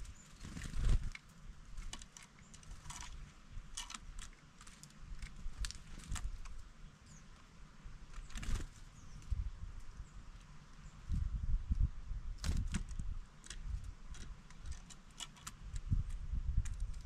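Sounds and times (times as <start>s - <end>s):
birds pecking on wooden feeder: 0.0s - 9.4s, 12.4s - 17.0s.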